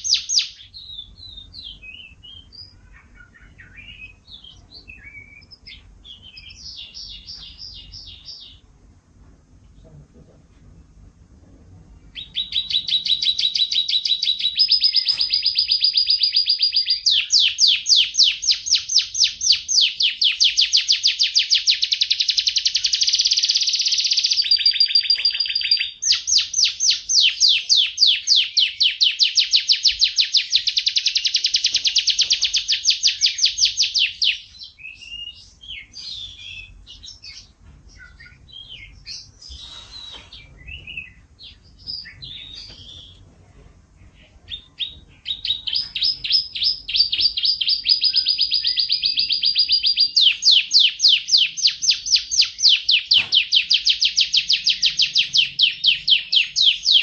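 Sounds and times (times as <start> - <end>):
canary chirps: 0.0 - 8.8, 11.9 - 43.2, 44.0 - 57.0
canary singing trills: 0.0 - 8.8, 11.9 - 43.2, 44.0 - 57.0.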